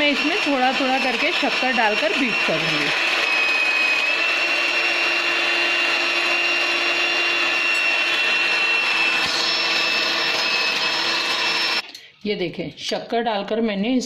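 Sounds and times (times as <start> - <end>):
electric hand mixer whisking: 0.0 - 11.8.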